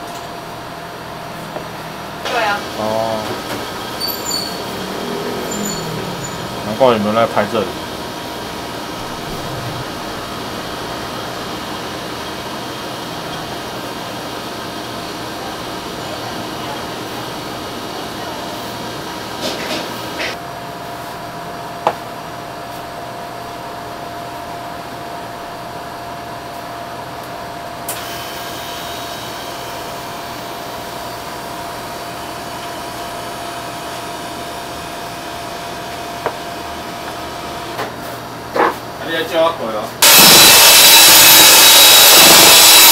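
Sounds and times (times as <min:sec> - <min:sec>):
electric fan whirring: 0:00.0 - 0:42.9.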